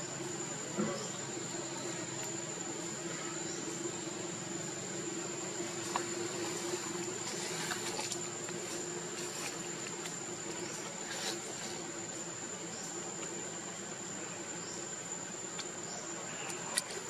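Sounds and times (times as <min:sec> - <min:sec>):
insects buzzing high-pitched: 0:00.0 - 0:17.0
low steady hum: 0:00.0 - 0:17.0.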